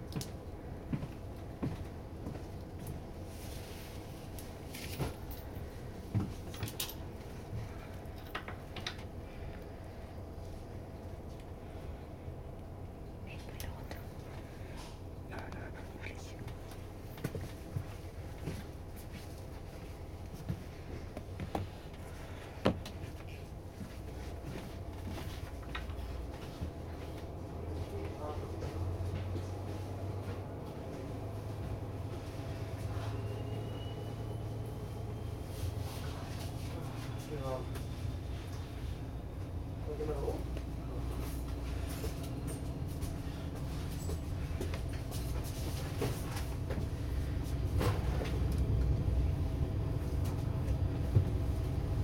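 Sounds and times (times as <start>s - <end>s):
diesel train rumbling: 0.0s - 52.0s
steady low hum: 0.0s - 52.0s.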